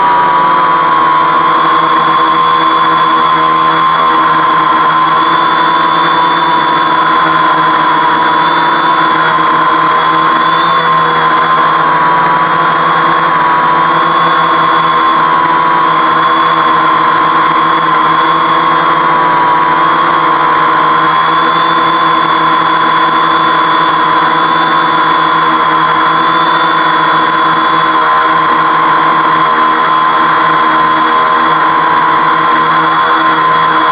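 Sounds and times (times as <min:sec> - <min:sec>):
quadcopter propellers whirring: 0:00.0 - 0:33.9.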